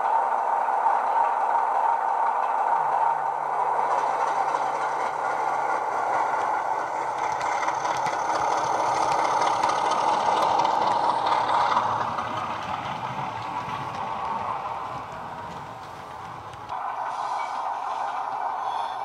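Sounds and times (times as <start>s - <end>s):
model train diesel engine sound: 0.0s - 19.0s.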